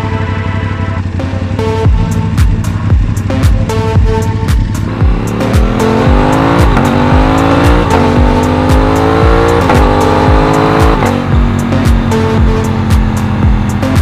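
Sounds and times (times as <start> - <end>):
motorcycle engine accelerating: 0.8 - 14.0
electronic music beat: 1.1 - 14.0.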